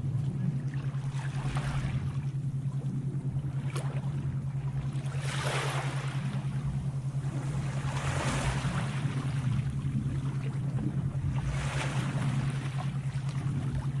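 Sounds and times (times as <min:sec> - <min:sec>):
sea waves washing in: 0:00.0 - 0:14.0
steady low hum: 0:00.0 - 0:14.0.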